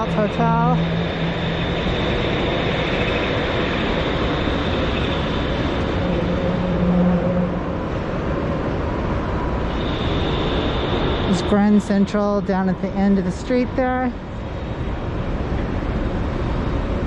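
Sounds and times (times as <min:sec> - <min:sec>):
low drone: 0:00.0 - 0:17.0
street traffic rumble and hiss: 0:00.0 - 0:17.0.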